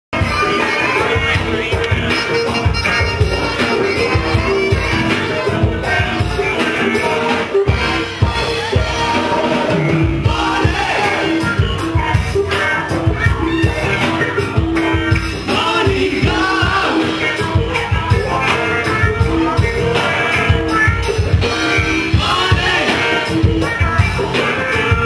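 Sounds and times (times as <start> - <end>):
live rock band playing: 0.1 - 25.0
person singing: 0.2 - 25.0.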